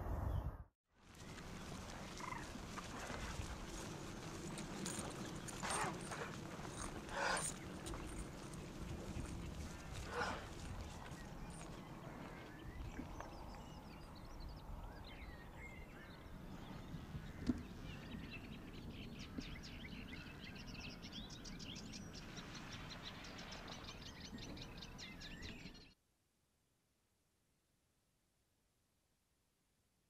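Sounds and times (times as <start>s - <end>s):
small birds chirping: 1.1s - 25.9s.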